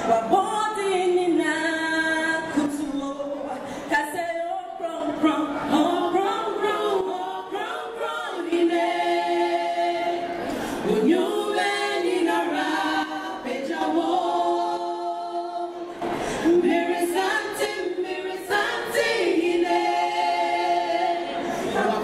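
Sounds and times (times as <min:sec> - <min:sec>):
women singing a cappella: 0:00.0 - 0:22.0.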